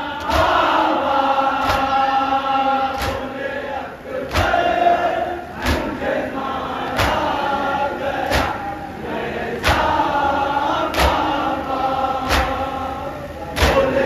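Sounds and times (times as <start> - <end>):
group chanting in chorus: 0.0 - 14.0.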